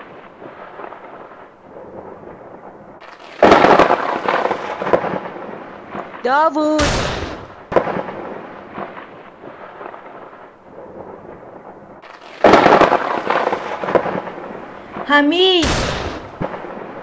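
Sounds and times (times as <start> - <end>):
low crackling rumble: 0.0 - 17.0.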